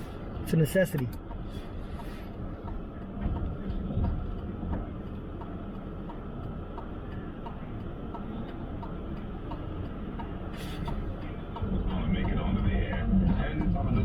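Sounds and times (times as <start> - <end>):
car engine and tyre rumble: 0.0 - 14.0
light regular ticking: 0.0 - 14.0.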